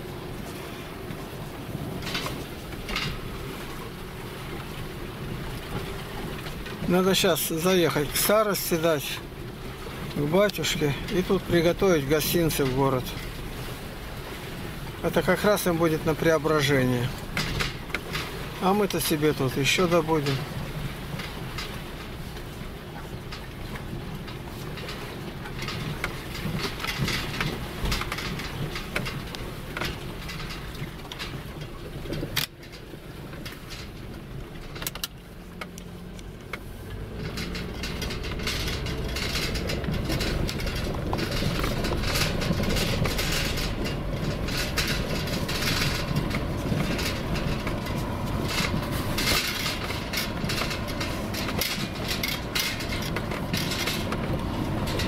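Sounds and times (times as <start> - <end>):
car engine and tyre noise: 0.0 - 55.0
rattles and knocks: 0.1 - 55.0.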